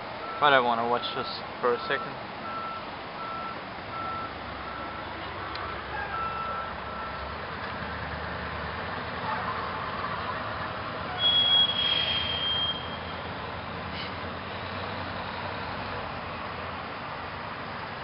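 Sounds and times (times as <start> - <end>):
street traffic hum: 0.0 - 18.0.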